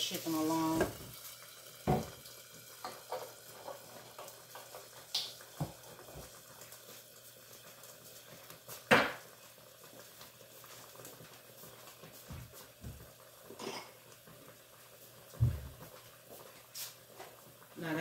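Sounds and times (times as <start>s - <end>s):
broth bubbling in a pan: 0.0s - 18.0s.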